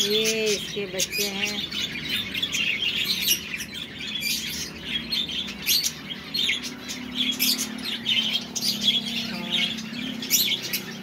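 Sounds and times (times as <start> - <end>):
finches chirping: 0.0 - 11.0.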